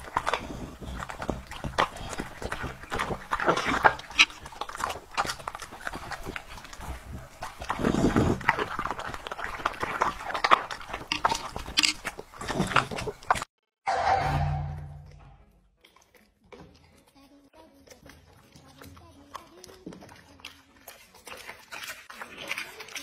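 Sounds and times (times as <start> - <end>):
dog chewing with wet crunches: 0.0 - 13.5, 15.7 - 23.0.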